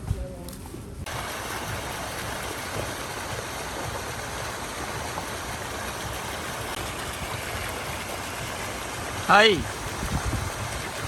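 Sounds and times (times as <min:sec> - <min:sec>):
flowing water rushing: 0:01.1 - 0:11.0.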